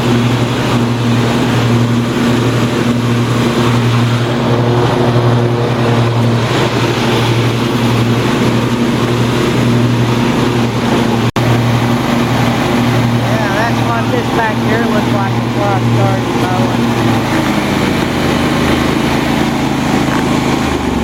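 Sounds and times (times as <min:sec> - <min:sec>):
lawn tractor engine running: 0:00.0 - 0:21.0
mower deck cutting grass: 0:00.0 - 0:21.0.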